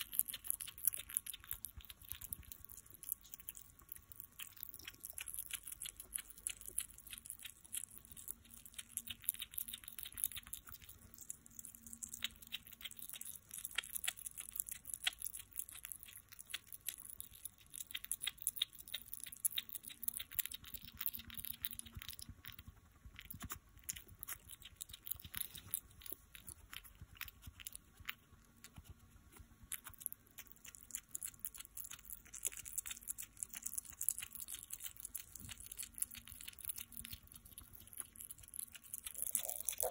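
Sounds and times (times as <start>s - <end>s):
hedgehog chewing: 0.0s - 39.9s.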